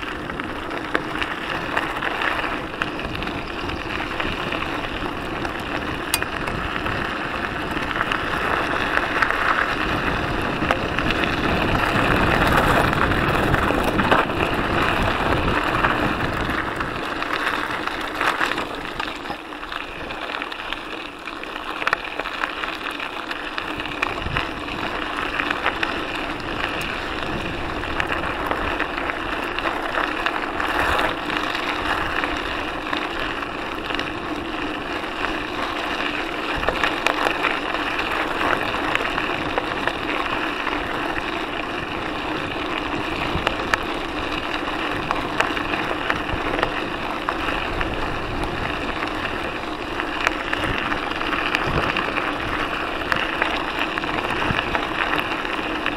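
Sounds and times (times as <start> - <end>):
wind on microphone: 0.0 - 20.3, 23.6 - 35.1, 35.7 - 55.9
bike rattling and clicking: 0.0 - 55.9
bike tyres crunching on gravel: 0.0 - 55.9.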